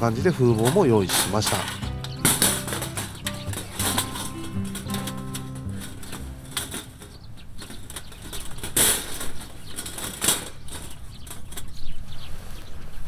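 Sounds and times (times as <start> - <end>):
aluminium panels rattling: 0.0 - 12.0.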